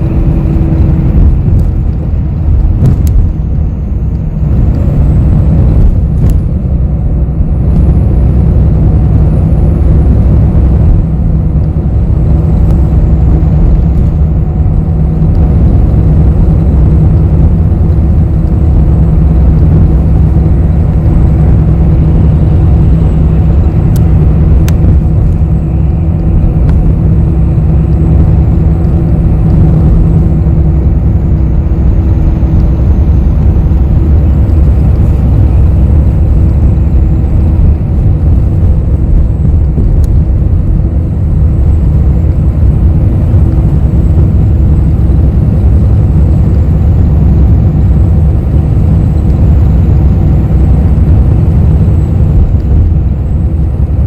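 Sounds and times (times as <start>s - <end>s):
bus engine and road rumble: 0.0s - 54.0s
low hum: 0.0s - 54.0s.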